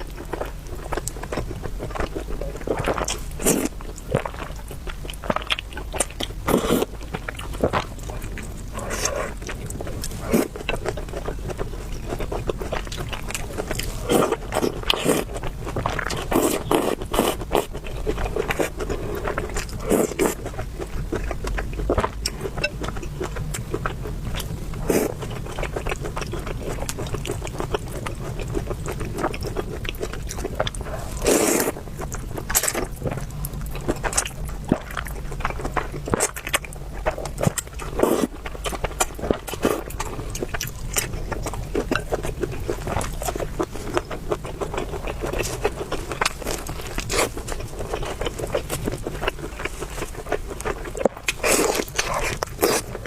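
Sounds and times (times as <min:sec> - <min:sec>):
person chewing: 0:00.0 - 0:53.0
steady low hum: 0:00.0 - 0:53.0.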